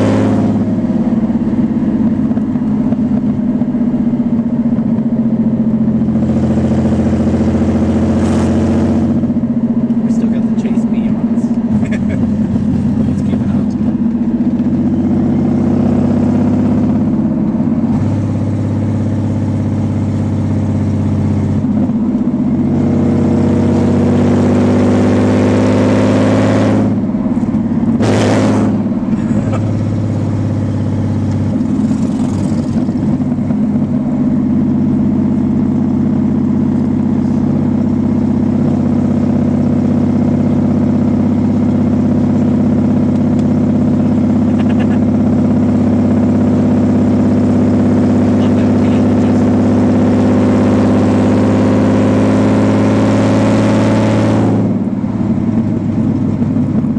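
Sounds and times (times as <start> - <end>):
car engine droning: 0.0 - 56.9.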